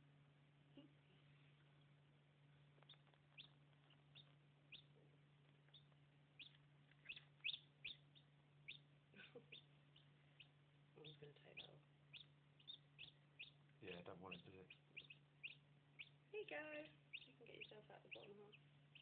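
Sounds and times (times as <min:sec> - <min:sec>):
chicks peeping: 0:00.6 - 0:19.0.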